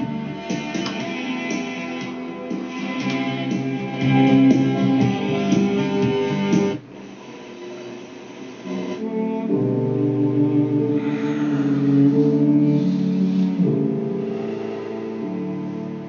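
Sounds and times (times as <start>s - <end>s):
guitar music from radio: 0.0s - 16.0s.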